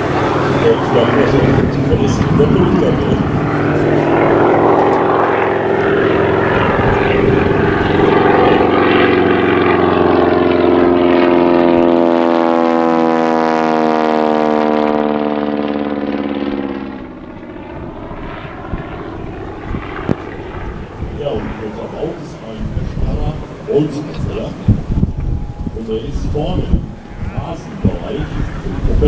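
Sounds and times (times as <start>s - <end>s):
propeller aircraft engine passing: 0.0s - 29.0s.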